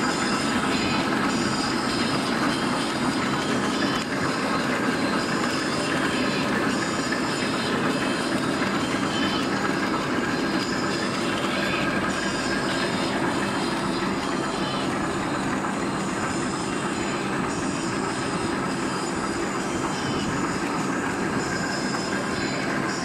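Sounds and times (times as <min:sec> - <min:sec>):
machine rattling: 0:00.0 - 0:23.0.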